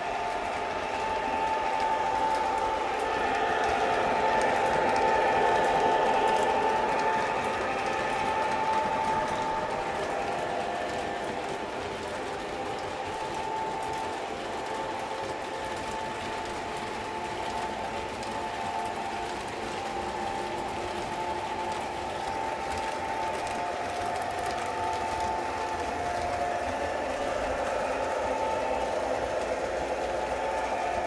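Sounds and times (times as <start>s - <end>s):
model trains whirring on track: 0.0s - 31.0s.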